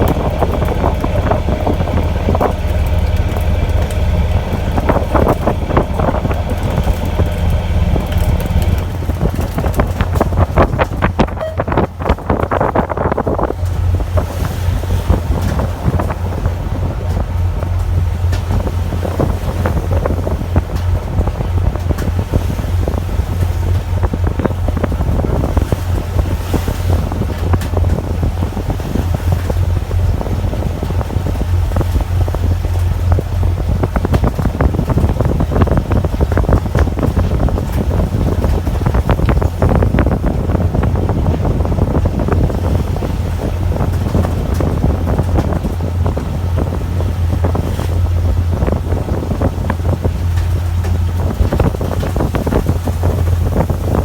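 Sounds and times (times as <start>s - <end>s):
boat engine rumble: 0.0s - 54.0s
wind buffeting microphone: 0.0s - 54.0s.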